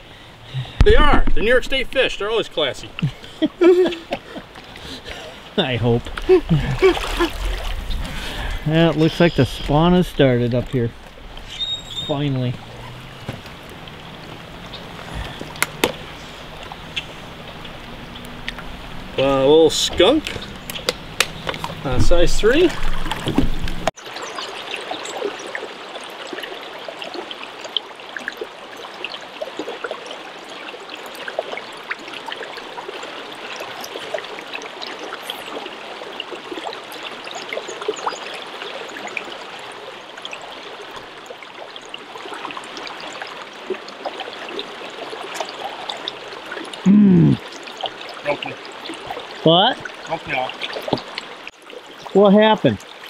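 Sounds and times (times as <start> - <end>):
river rushing over shallows: 0.0 - 53.0.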